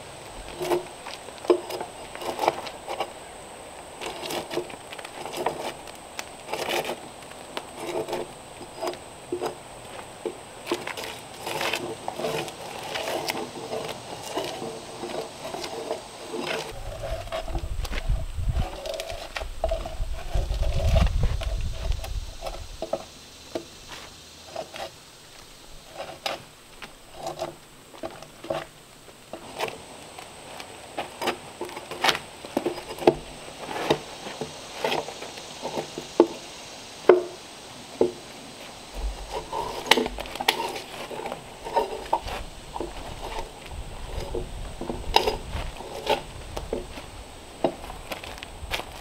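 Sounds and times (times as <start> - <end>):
drawknife scraping bark: 0.5 - 3.2, 4.0 - 25.0, 25.8 - 26.5, 27.1 - 28.7, 30.5 - 36.5, 38.0 - 46.8.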